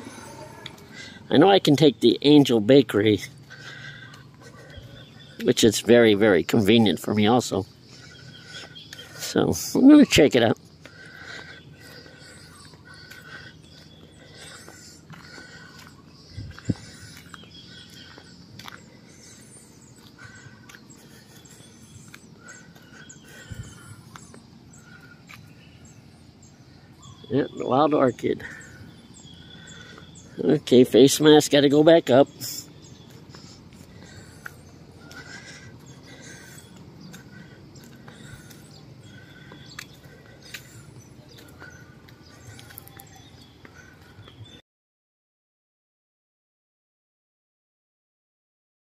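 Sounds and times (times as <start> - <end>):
small birds chirping: 0.0 - 44.6.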